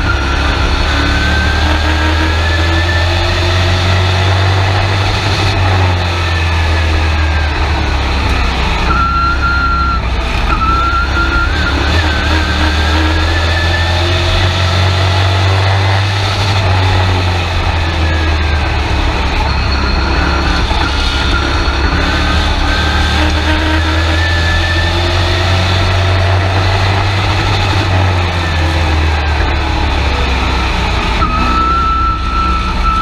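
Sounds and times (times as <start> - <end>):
truck engine drone: 0.0 - 33.0
wavering engine whine: 0.0 - 33.0.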